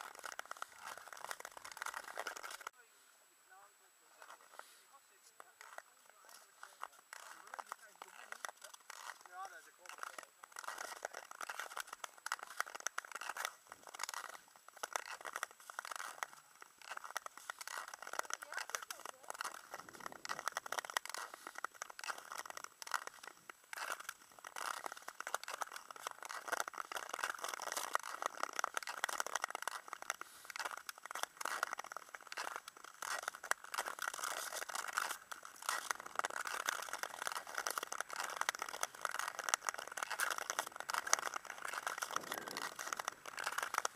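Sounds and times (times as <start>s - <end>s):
ice skate blades scraping: 0.0s - 2.7s, 4.1s - 43.9s.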